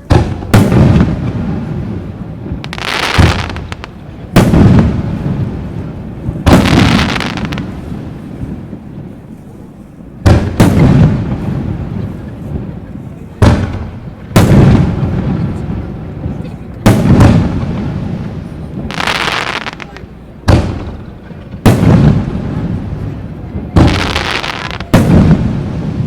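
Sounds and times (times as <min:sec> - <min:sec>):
fireworks booming with echo: 0:00.0 - 0:26.0.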